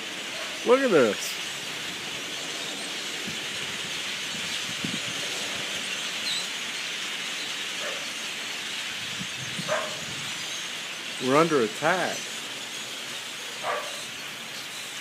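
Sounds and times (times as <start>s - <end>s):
flock of birds chattering: 0.0s - 15.0s.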